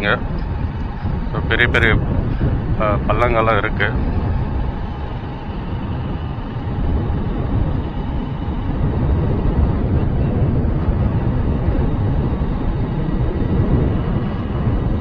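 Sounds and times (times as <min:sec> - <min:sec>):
motorbike riding: 0:00.0 - 0:15.0
wind rushing over microphone: 0:00.0 - 0:15.0.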